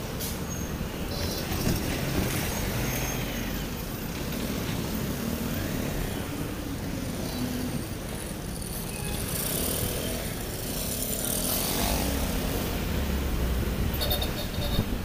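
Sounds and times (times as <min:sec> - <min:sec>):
traffic engines running: 0:00.0 - 0:15.0.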